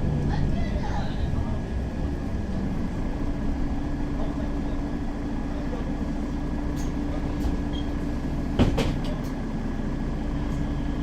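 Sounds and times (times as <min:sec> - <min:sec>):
bus engine hum: 0:00.0 - 0:11.0.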